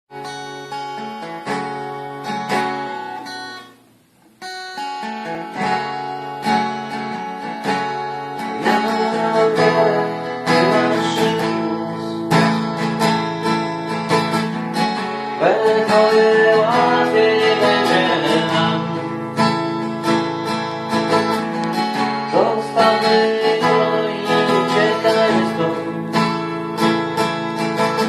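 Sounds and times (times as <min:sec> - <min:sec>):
acoustic guitar strumming: 0:00.1 - 0:28.0.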